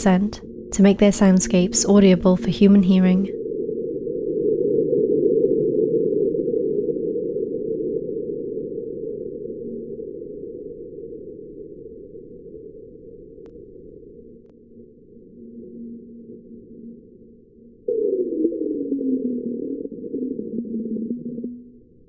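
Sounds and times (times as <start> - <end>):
deep rumble: 0.0 - 22.0.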